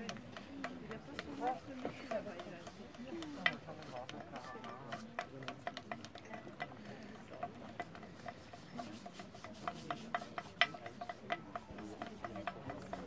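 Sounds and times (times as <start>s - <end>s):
small hammers tapping mould: 0.0s - 13.0s.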